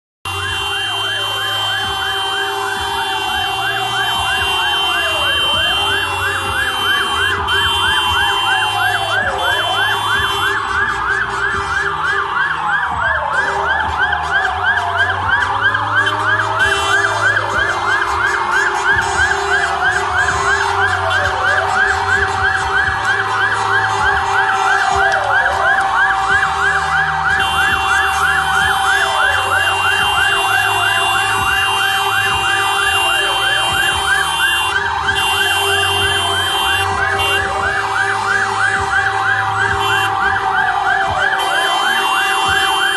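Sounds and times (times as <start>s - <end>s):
fire engine siren wailing: 0.3s - 42.9s
fire engine siren yelping: 0.3s - 42.9s.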